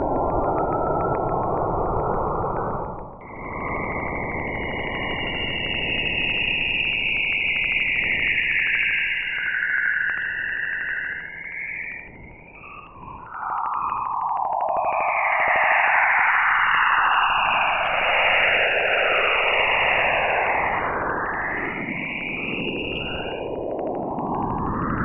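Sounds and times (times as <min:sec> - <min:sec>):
gliding high whistling tones: 0:03.7 - 0:25.0.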